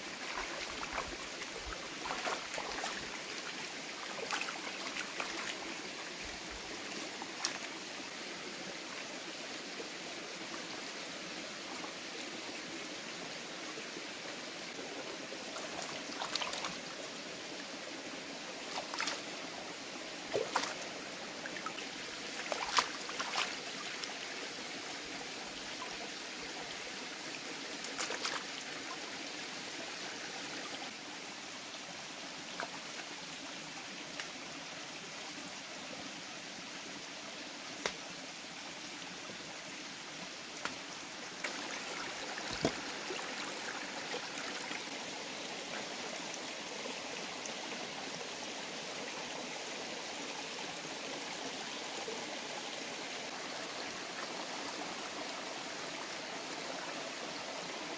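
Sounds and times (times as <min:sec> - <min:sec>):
running water: 0:00.0 - 0:31.0, 0:37.8 - 0:57.9.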